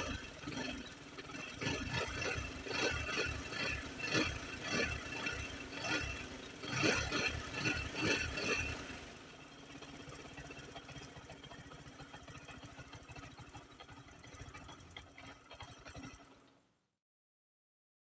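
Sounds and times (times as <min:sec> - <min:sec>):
motorcycle engine idling: 0:00.0 - 0:16.7.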